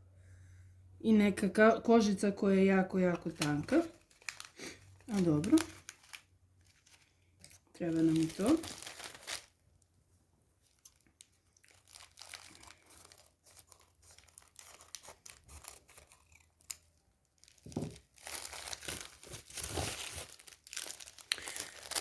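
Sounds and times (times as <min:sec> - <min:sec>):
packaging rustling and crinkling: 0:03.1 - 0:09.6, 0:10.6 - 0:22.0.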